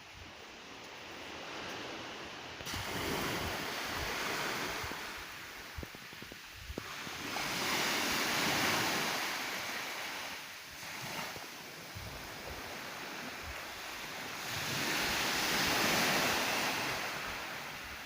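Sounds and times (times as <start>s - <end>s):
waves breaking on shore: 0.0s - 18.0s.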